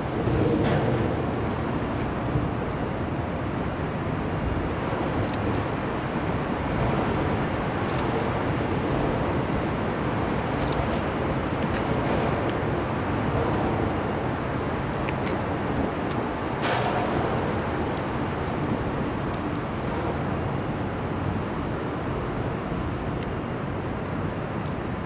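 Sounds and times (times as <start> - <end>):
ship low rumble: 0.0 - 25.0.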